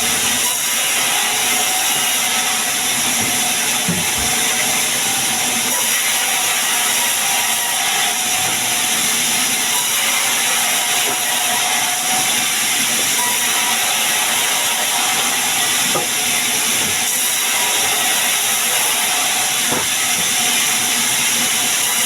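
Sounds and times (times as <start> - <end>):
saw cutting wood: 0.0 - 22.0.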